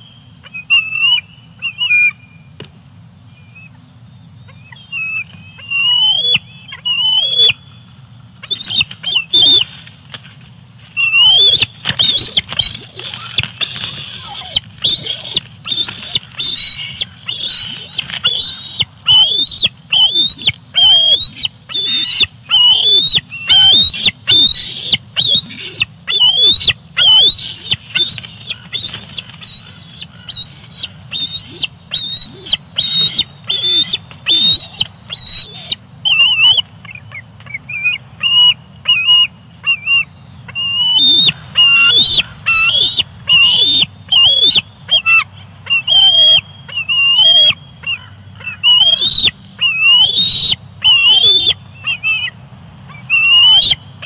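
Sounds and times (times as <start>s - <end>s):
young eagle squealing calls: 0.4s - 2.3s, 4.5s - 7.6s, 8.4s - 9.7s, 11.0s - 53.8s.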